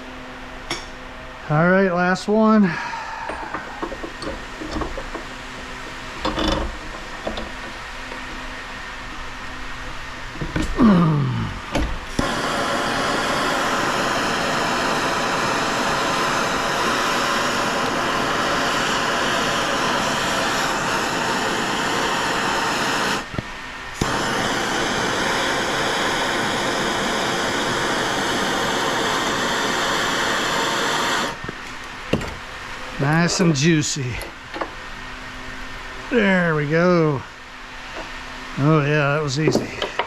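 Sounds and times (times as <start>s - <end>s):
torch flame hissing: 1.4s - 40.0s.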